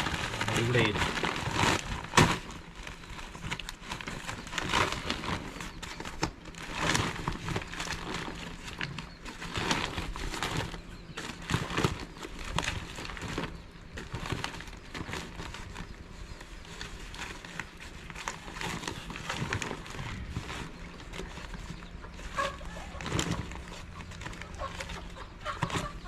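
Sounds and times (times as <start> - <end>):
nylon nets rustling: 0.0 - 26.0.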